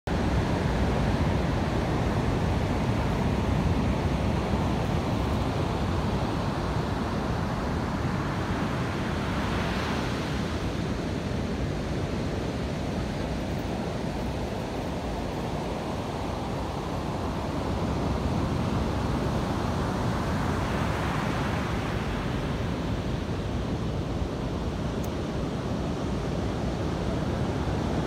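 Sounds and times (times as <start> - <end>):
ocean surf breaking on beach: 0.1 - 28.0.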